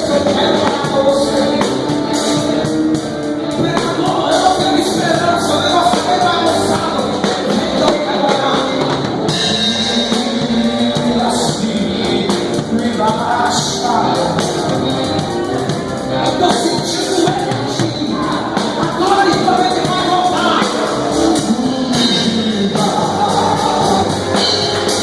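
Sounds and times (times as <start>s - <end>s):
drum kit beat: 0.0s - 25.0s
voices singing: 0.0s - 25.0s.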